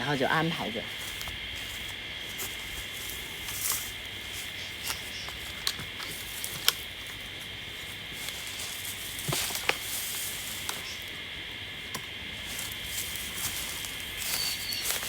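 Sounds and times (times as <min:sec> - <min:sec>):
high-pitched insect chorus: 0:00.0 - 0:15.0
twigs clicking and rustling: 0:00.9 - 0:15.0.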